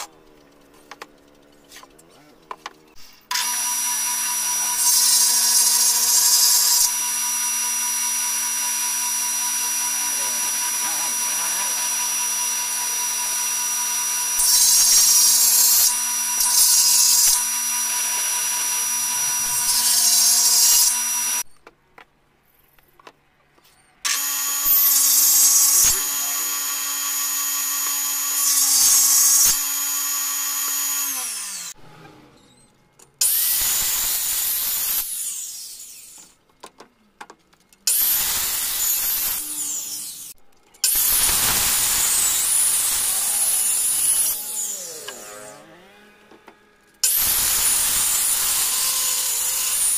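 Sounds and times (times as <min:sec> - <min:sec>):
circular saw cutting wood: 0:00.0 - 0:21.5, 0:24.0 - 0:36.4, 0:37.9 - 0:49.9
table saw cutting wood: 0:03.0 - 0:21.4, 0:24.0 - 0:36.4, 0:37.9 - 0:49.9.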